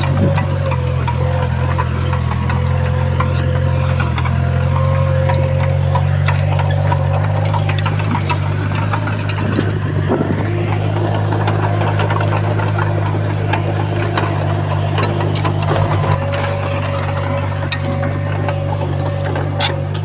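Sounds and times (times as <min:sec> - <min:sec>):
diesel engine running: 0:00.0 - 0:20.0
short metal clanks and knocks: 0:00.0 - 0:20.0.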